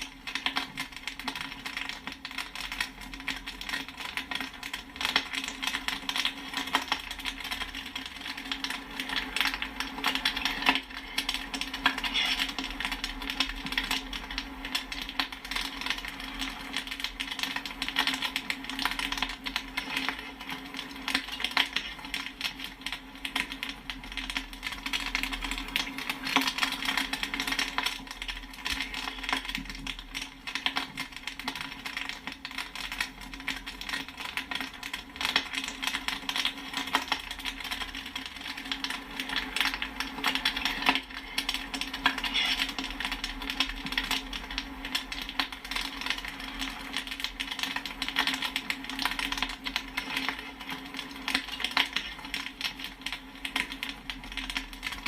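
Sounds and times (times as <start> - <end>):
popcorn popping: 0.0 - 55.0.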